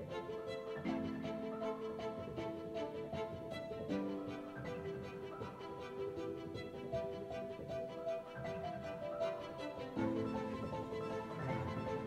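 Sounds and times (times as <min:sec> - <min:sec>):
music with held notes and beat: 0:00.0 - 0:12.0.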